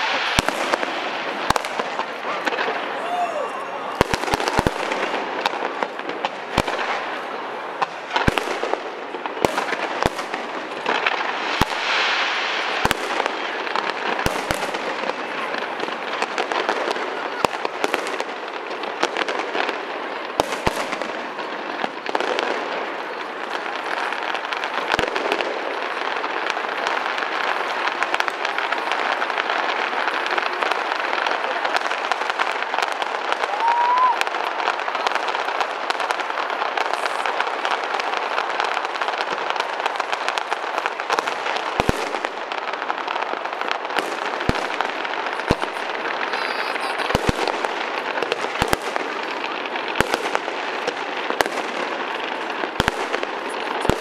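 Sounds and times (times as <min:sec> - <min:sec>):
crackling fireworks: 0:00.0 - 0:54.0.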